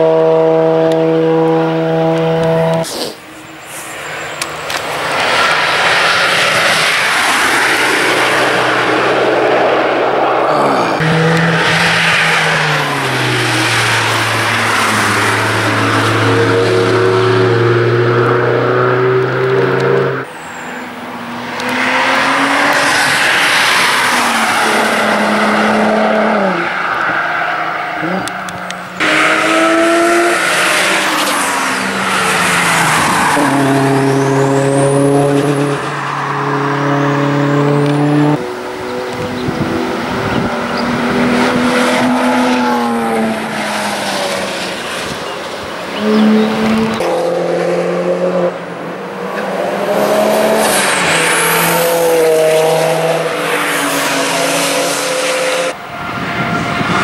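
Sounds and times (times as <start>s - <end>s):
sports car engines revving past: 0.0s - 57.0s
tyre and road noise: 0.0s - 57.0s.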